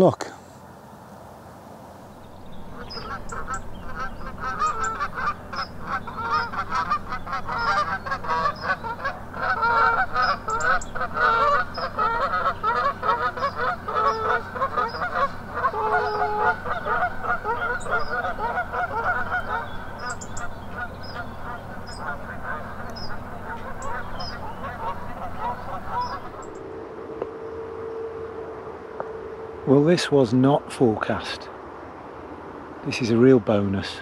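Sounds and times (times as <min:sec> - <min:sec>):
geese honking in flight: 0:02.2 - 0:29.8.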